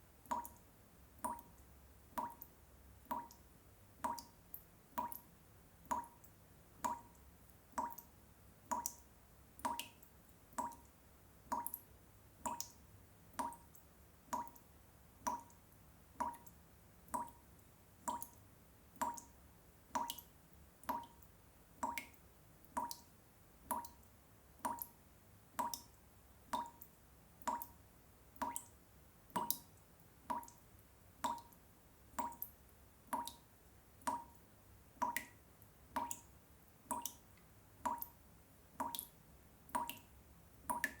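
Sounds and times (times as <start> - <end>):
water dripping plinks: 0.2 - 3.4, 4.0 - 10.9, 11.5 - 14.7, 15.3 - 19.3, 20.0 - 25.0, 25.6 - 27.8, 28.4 - 30.6, 31.2 - 34.4, 35.0 - 36.3, 36.9 - 38.2, 38.8 - 41.0.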